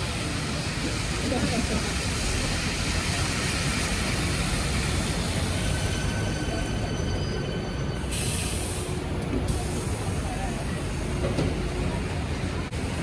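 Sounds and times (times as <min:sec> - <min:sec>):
bus engine whine: 0:00.0 - 0:13.0
hiss of tyres and engines: 0:00.0 - 0:13.0.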